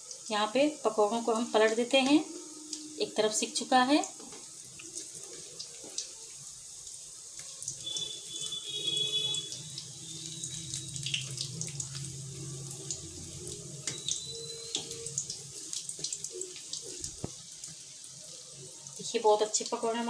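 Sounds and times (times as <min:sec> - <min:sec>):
oil sizzling with crackling pops: 0:00.0 - 0:20.0.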